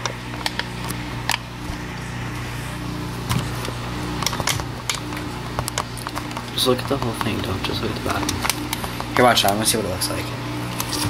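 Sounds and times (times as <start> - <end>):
washing machine humming and throbbing: 0.0 - 11.0.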